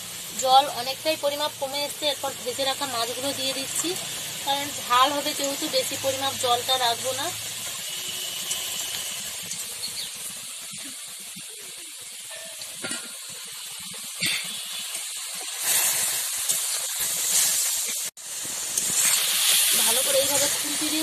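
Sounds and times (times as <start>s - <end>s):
gravy hissing and sizzling: 0.0s - 21.0s.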